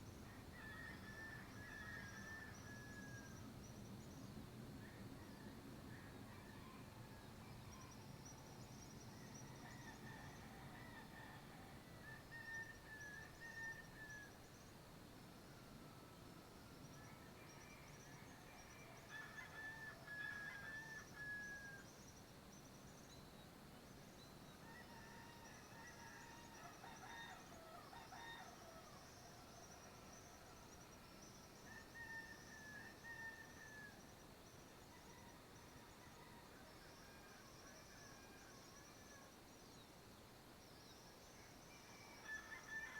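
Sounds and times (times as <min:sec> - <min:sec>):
faint rooster crowing: 0:00.2 - 0:03.5, 0:04.8 - 0:14.7, 0:15.5 - 0:22.1, 0:24.4 - 0:39.8, 0:41.3 - 0:42.9.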